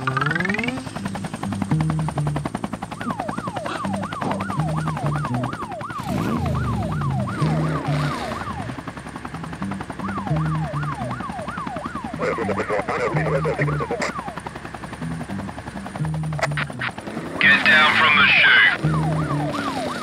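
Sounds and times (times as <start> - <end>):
police siren sound effect: 0.0 - 20.0.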